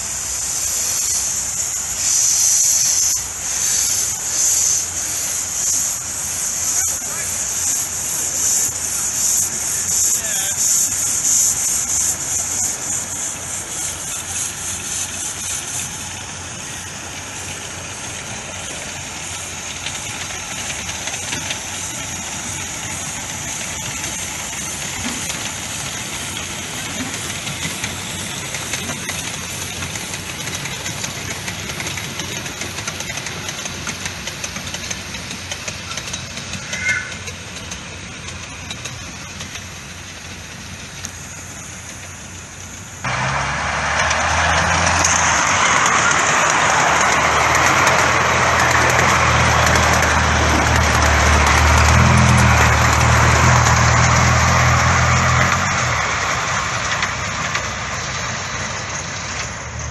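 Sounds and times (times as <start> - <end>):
steam locomotives passing: 0.0 - 59.9.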